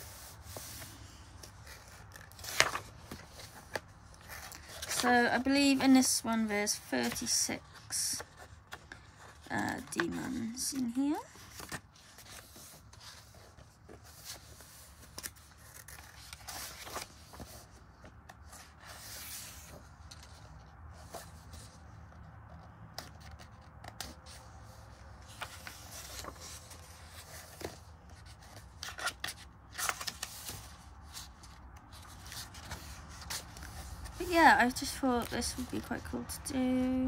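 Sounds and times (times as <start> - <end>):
paper pages turning: 0.0 - 36.3.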